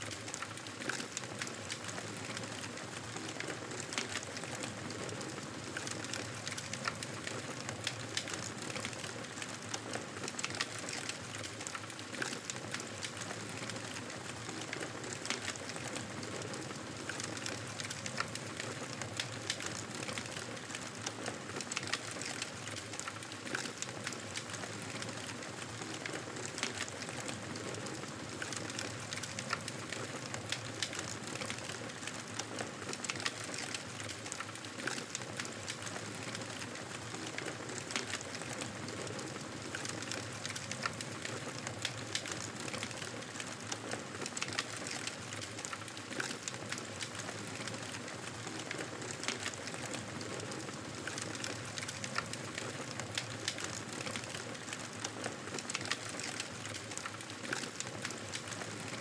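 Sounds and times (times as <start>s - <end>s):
campfire crackling: 0.1s - 59.0s.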